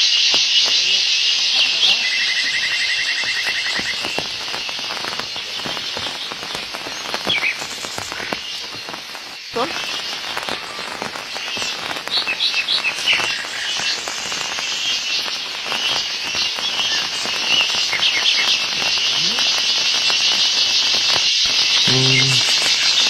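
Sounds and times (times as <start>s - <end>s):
forest insects chorus: 0.0s - 23.0s.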